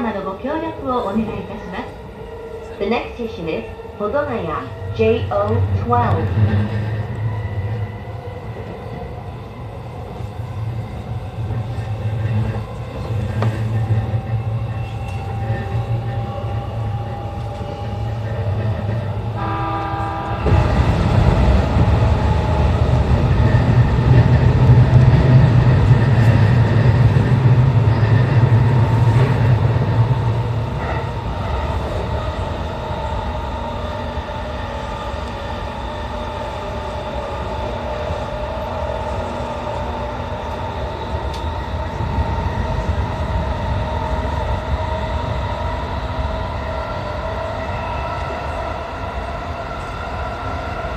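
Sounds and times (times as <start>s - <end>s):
train running noise: 0.0s - 50.9s
train motor whine: 3.8s - 50.9s.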